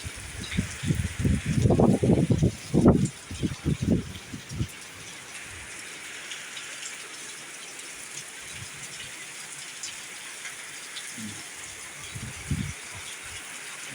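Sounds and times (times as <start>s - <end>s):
heavy rain hissing: 0.0s - 13.9s.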